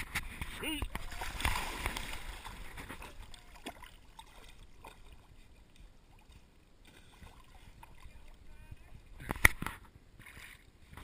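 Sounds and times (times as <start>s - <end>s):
river water splashing: 0.0s - 11.0s
water lapping and dripping: 0.0s - 11.0s.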